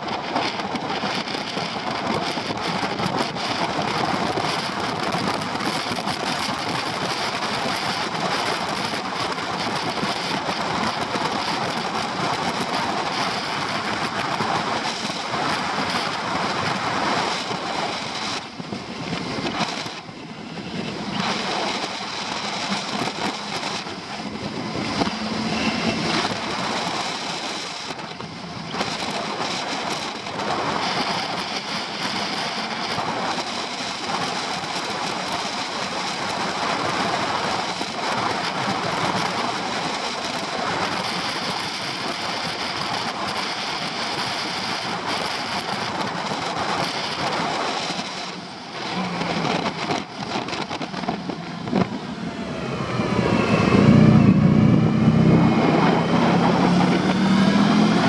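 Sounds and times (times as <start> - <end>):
wind and road rush: 0.0 - 58.0.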